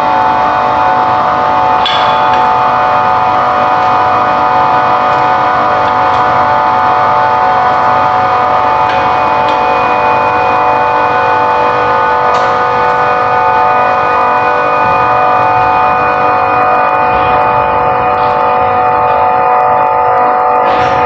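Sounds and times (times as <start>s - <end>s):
machinery drone: 0.0s - 21.0s.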